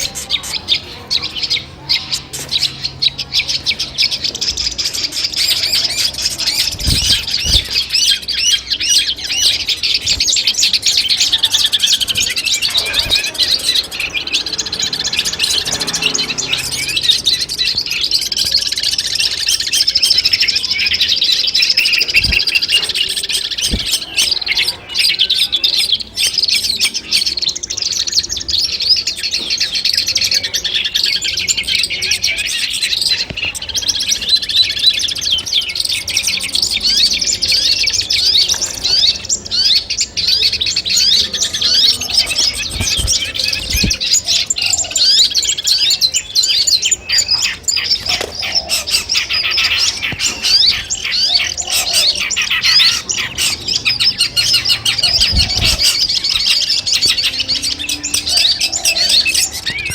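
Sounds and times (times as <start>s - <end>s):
bird chattering song: 0.0s - 59.9s.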